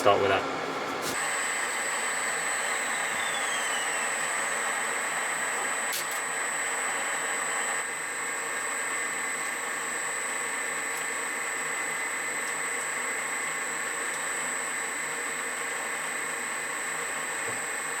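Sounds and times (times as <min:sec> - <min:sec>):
metal lathe whine and hum: 0:00.1 - 0:18.0.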